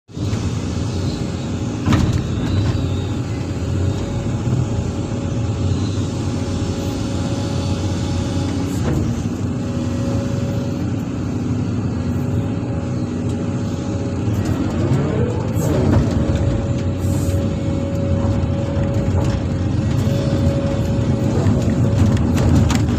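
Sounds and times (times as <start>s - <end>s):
excavator diesel engine: 0.1s - 22.9s
hydraulic whine: 0.1s - 22.9s.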